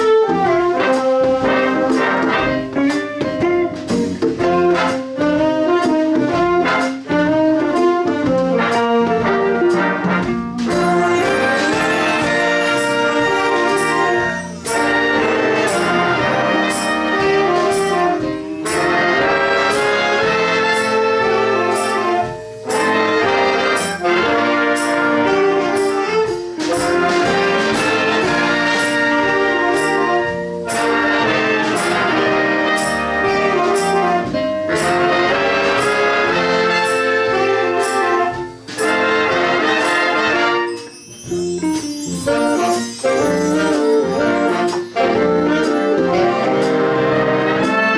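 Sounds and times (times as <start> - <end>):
big band brass and saxophones: 0.0 - 47.9.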